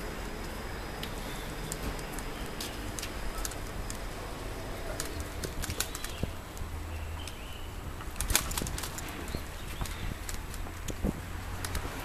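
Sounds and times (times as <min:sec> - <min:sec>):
low city street rumble: 0:00.0 - 0:12.0.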